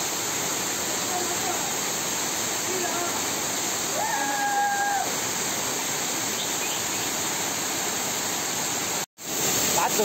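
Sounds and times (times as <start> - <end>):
waterfall pouring onto rock: 0.0 - 6.3, 7.3 - 10.0.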